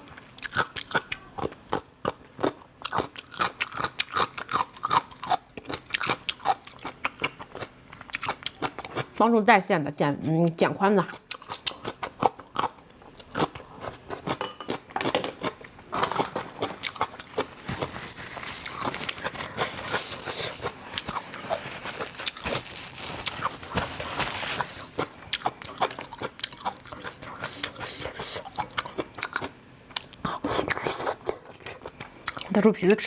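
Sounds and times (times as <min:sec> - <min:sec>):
person chewing crunchy food: 0:00.0 - 0:09.2, 0:11.1 - 0:32.5.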